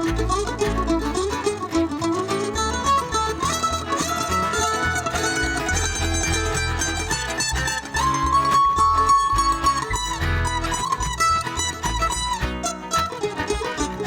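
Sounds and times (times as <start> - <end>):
bass line: 0.0 - 14.0
bluegrass band playing: 0.0 - 14.0
plucked-string picking: 0.0 - 14.0.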